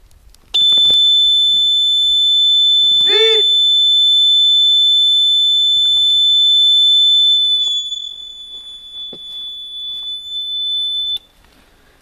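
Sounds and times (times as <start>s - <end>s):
shrill electric buzzer tone: 0.6s - 11.3s.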